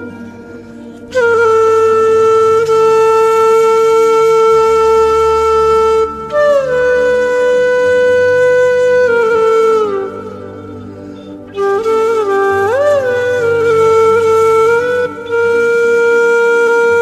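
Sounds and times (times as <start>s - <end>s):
soft low drone: 0.0s - 16.2s
flute long notes: 0.0s - 17.0s.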